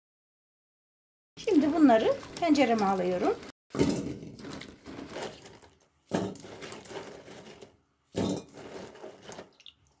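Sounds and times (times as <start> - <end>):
wet pine cones clattering into pot: 1.4 - 9.8.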